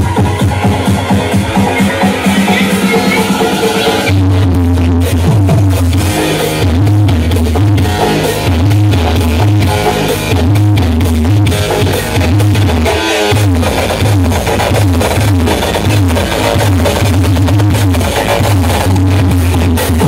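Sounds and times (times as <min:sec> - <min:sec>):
deep bass notes pulsing: 0:00.0 - 0:20.0
loud music with drums and guitar: 0:00.0 - 0:20.0.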